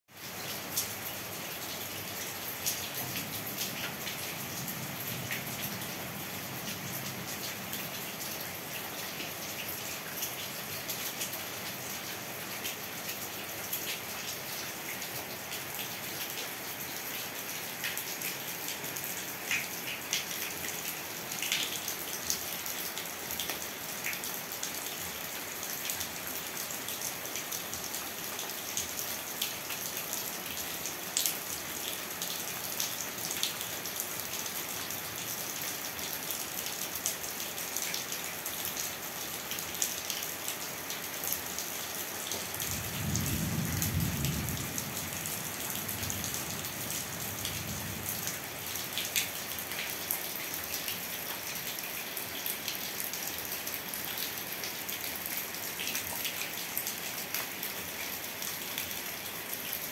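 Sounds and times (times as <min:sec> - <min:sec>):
raindrops tapping surfaces: 0:00.2 - 0:38.8, 0:39.5 - 0:53.6.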